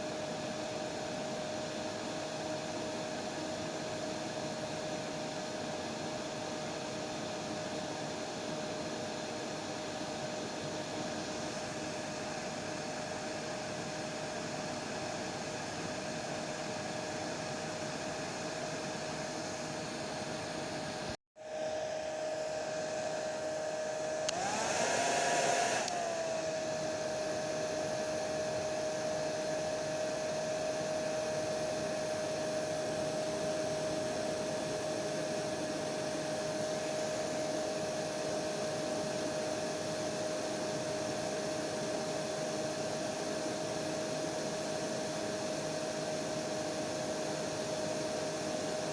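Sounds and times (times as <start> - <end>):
hair dryer blowing with whine: 0.0 - 48.9.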